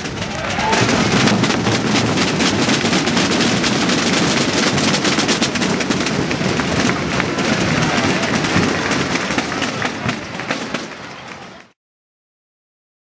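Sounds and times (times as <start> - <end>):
massed snare and bass drums: 0.0 - 11.6.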